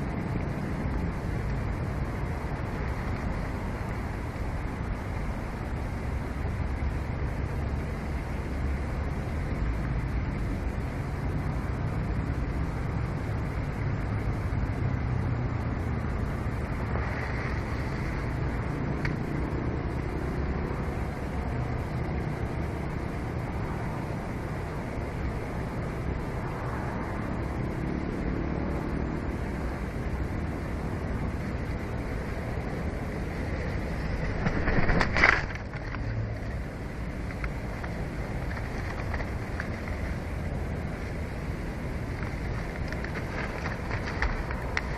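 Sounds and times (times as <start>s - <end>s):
low rumbling background noise: 0.0s - 44.9s.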